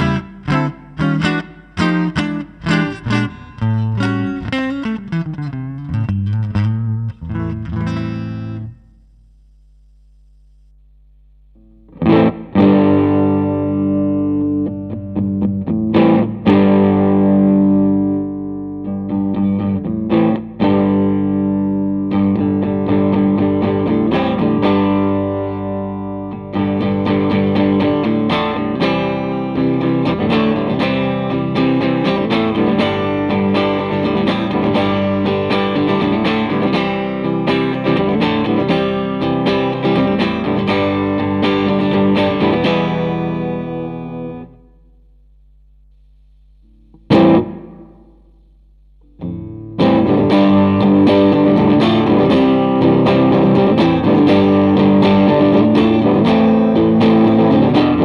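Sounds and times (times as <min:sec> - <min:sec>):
electric guitar chords: 0:00.0 - 0:09.6, 0:11.4 - 0:58.0.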